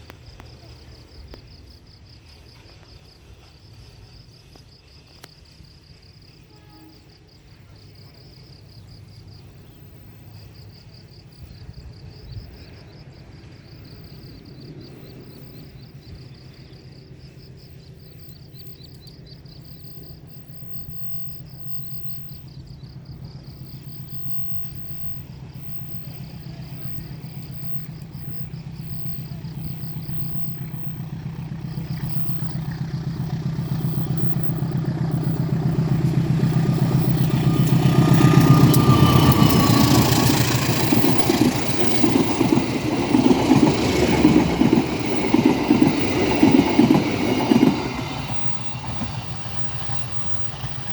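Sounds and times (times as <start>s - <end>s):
diesel locomotive engine drone: 0.0s - 50.9s
insects chirping: 0.0s - 50.9s
train wheels rumbling: 0.0s - 50.9s.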